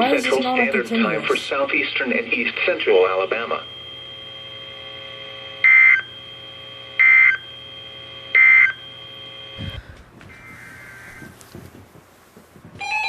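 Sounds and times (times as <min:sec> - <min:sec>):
faint electronic hum: 0:00.0 - 0:11.9.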